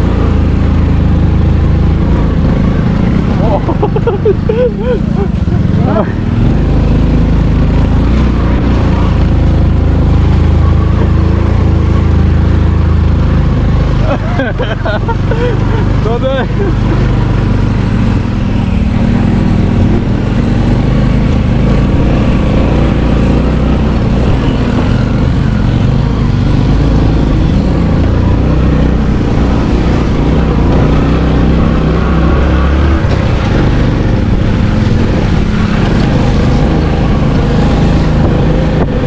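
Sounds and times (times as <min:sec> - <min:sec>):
vehicle engine droning: 0:00.0 - 0:39.0.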